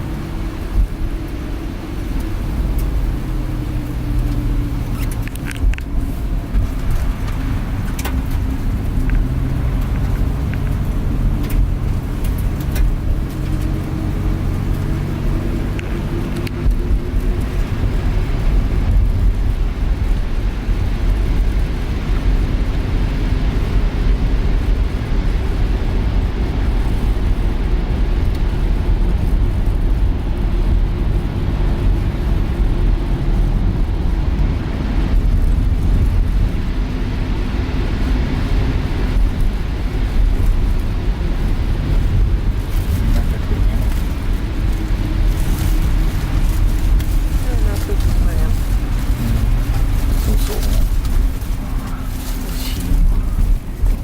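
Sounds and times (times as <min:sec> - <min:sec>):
van engine and road rumble: 0:00.0 - 0:54.0.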